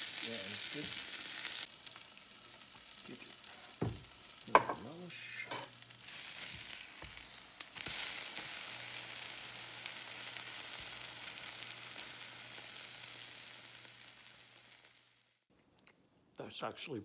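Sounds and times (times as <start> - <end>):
burger patty sizzling in a pan: 0.0 - 15.5.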